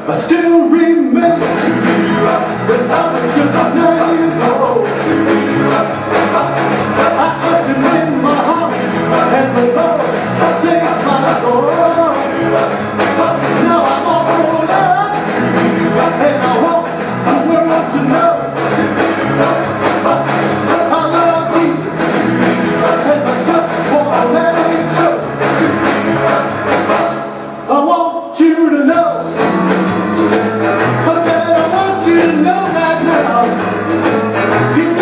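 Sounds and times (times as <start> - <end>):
praise song with singing and beat: 0.0 - 35.0.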